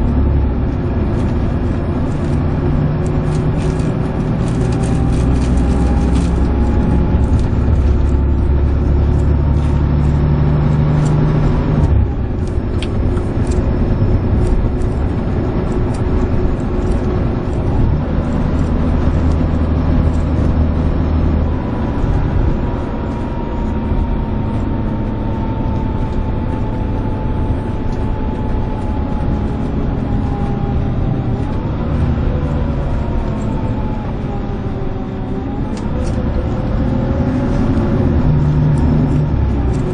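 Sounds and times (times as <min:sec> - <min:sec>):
diesel engine droning: 0:00.0 - 0:39.9
high whine: 0:00.0 - 0:39.9.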